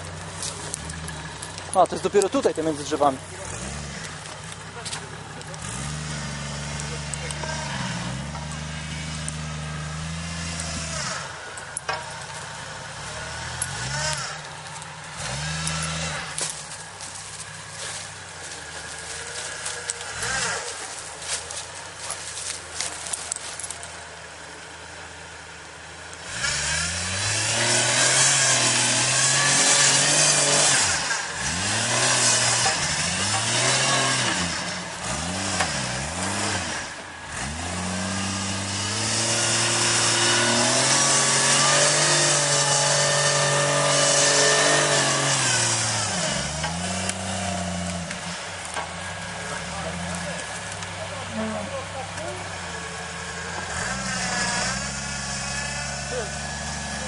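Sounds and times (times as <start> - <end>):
engine revving hard: 1.1 - 11.5, 12.9 - 14.5, 15.1 - 17.1, 18.8 - 21.4, 26.2 - 57.0.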